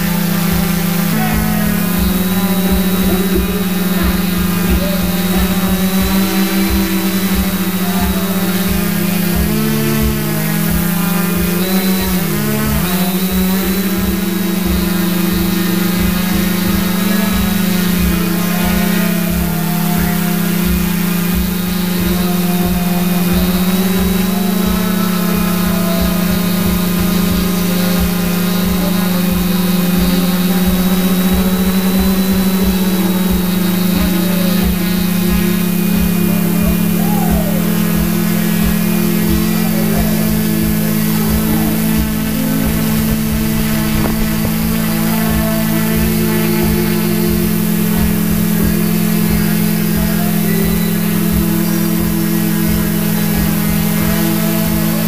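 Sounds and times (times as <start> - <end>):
drone propellers buzzing: 0.0 - 55.0
low thumps: 0.0 - 55.0.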